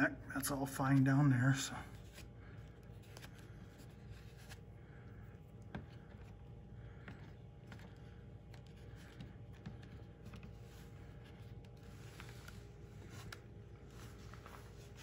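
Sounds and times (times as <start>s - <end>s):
steady low hum: 0.0s - 15.0s
hands smoothing clay: 1.8s - 15.0s.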